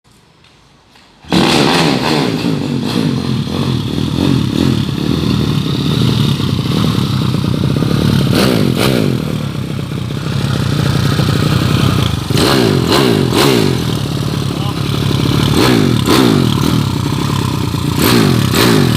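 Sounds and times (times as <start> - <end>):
motorcycle engine burbling: 1.2 - 18.9.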